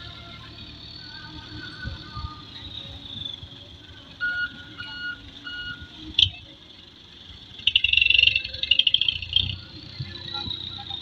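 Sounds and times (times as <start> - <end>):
truck reversing alarm beeping: 0.0 - 6.5, 7.1 - 11.0.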